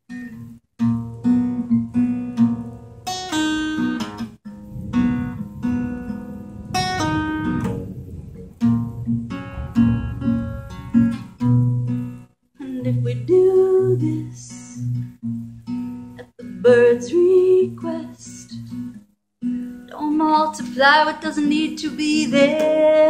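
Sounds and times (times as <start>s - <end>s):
acoustic guitar strumming: 0.1s - 23.0s.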